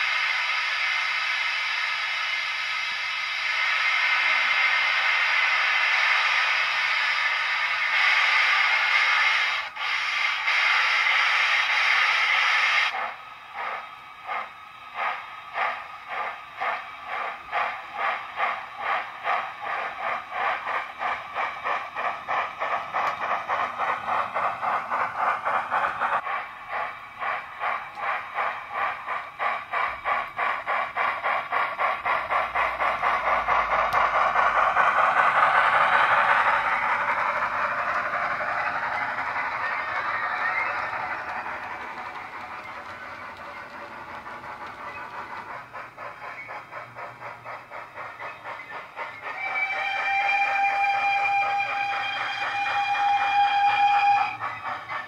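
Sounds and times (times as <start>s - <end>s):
steam hiss: 0.0s - 55.0s
steam locomotive exhaust chuffs: 0.0s - 55.0s.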